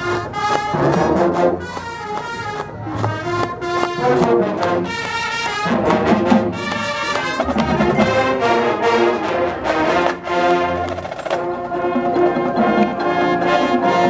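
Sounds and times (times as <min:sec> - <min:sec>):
brass holding loud chords: 0:00.0 - 0:14.0
marching band playing: 0:00.0 - 0:14.0.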